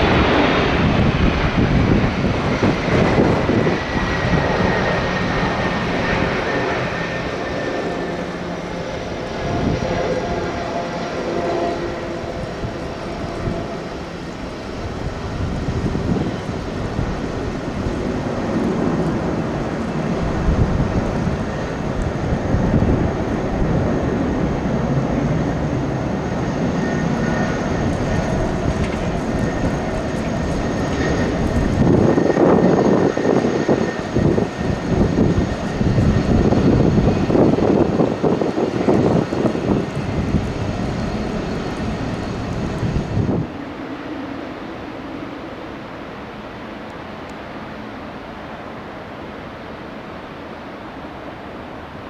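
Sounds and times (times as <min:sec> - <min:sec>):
wind rumbling on microphone: 0:00.0 - 0:47.9
jet engines whining: 0:00.0 - 0:52.0.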